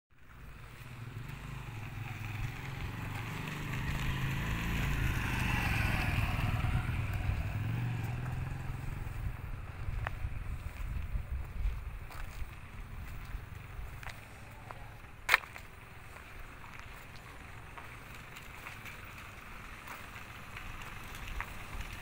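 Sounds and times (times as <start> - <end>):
vehicle engine rumbling: 0.1 - 22.0.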